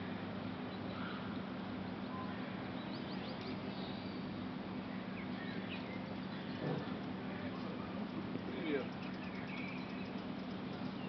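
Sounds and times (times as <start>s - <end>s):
city background hum: 0.0s - 11.0s.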